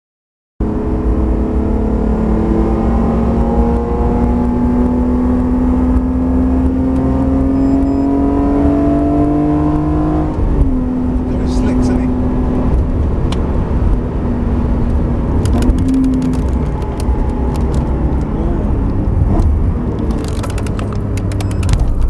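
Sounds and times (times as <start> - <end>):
car engine accelerating: 0.6 - 22.0.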